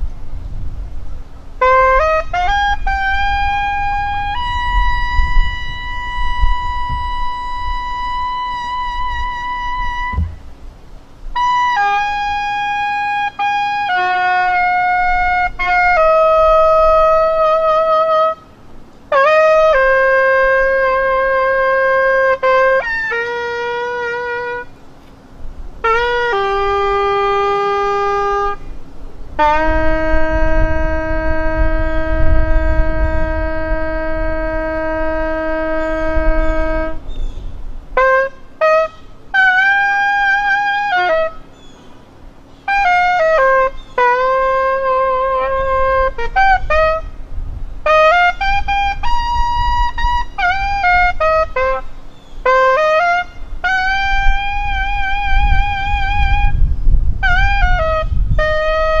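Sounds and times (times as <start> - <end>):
wind instrument slow melody: 1.3 - 59.0.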